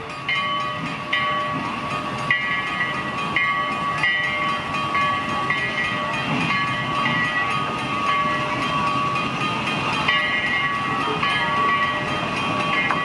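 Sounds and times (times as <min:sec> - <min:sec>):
locomotive bell ringing: 0:00.0 - 0:13.0
steam locomotive running slowly: 0:00.0 - 0:13.0.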